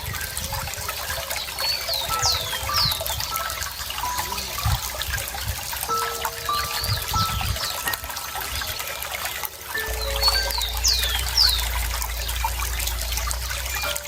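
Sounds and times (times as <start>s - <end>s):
water trickling and splashing: 0.0s - 14.0s
birds calling: 0.2s - 14.0s.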